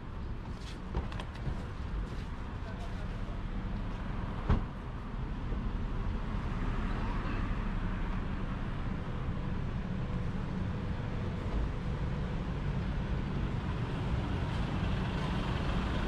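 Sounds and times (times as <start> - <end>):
rumble of passing cars: 0.0 - 16.0.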